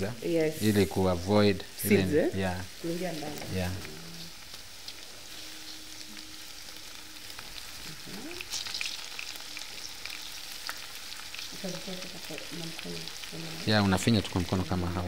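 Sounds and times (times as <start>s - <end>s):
butter and onions sizzling: 0.0s - 15.0s.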